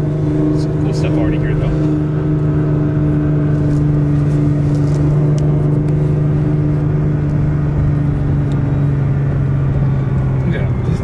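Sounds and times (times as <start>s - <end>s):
car engine low drone: 0.0s - 11.0s.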